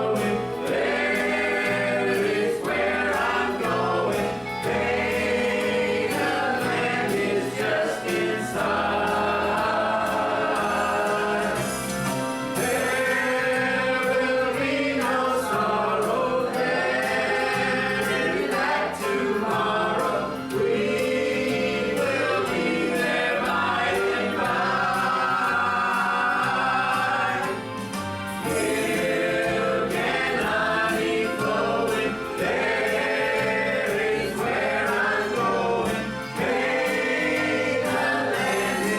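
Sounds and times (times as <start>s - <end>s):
choir singing a gospel hymn: 0.0s - 38.9s
instrumental accompaniment: 0.0s - 38.9s.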